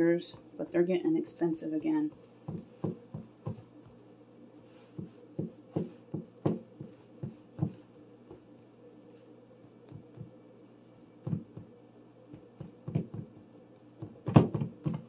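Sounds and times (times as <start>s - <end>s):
faint steady hum: 0.0s - 15.0s
hands patting dough: 1.8s - 10.4s, 11.2s - 15.0s.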